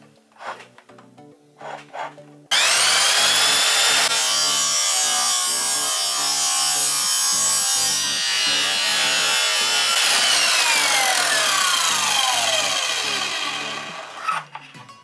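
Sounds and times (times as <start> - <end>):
mitre saw cutting wood: 1.6 - 14.5.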